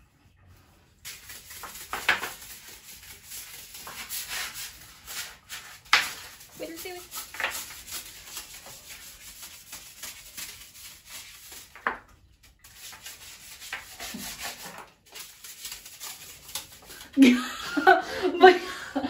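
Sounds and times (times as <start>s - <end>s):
stiff brush scrubbing: 0.0s - 11.9s, 12.5s - 17.2s.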